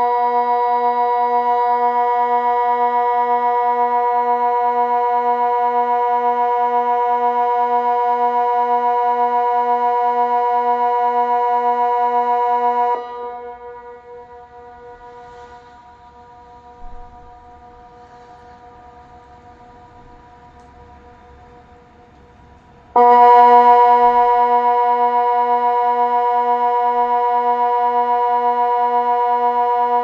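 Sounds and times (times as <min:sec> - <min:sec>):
civil defence siren steady chord: 0:00.0 - 0:30.0.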